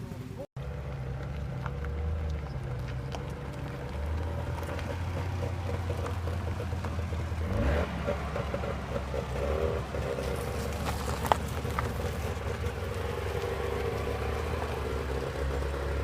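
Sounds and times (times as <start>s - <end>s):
small car engine running: 0.6s - 16.0s.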